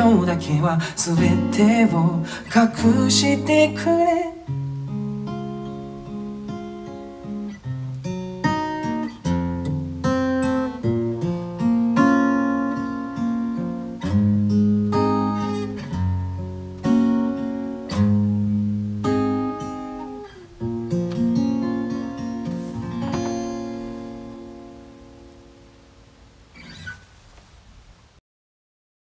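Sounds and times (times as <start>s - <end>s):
acoustic guitar strumming: 0.0s - 27.1s.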